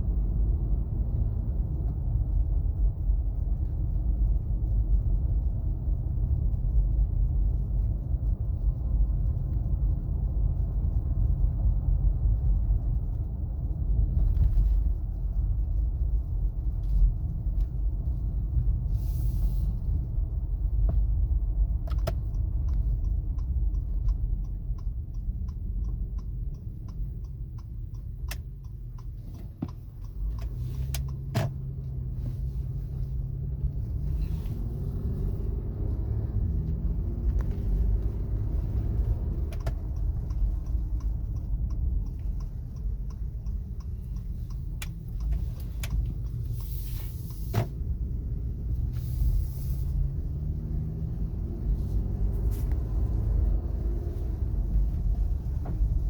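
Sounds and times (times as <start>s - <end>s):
road and tyre rumble: 0.0s - 56.0s
rapid light ticks: 0.1s - 18.9s, 19.7s - 50.4s.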